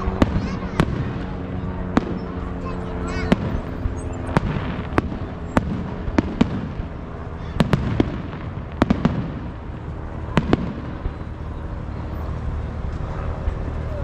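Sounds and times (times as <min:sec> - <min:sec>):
fireworks bangs: 0:00.0 - 0:14.0
steady background noise: 0:00.0 - 0:14.0.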